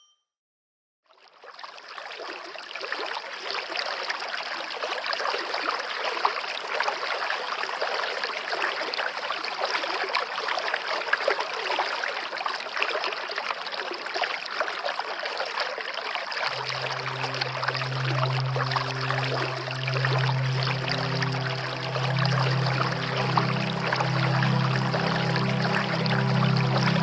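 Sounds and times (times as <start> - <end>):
rushing splashing water: 1.6 - 27.0.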